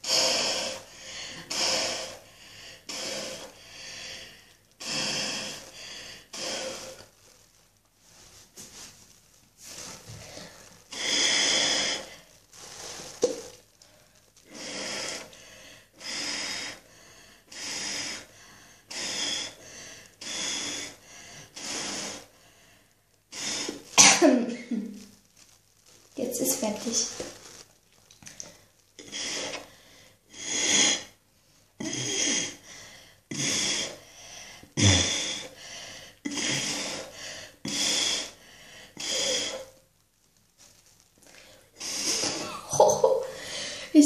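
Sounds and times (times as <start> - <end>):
breathy blowing through soapy fabric: 0.0 - 27.7, 28.6 - 39.8, 40.6 - 44.0.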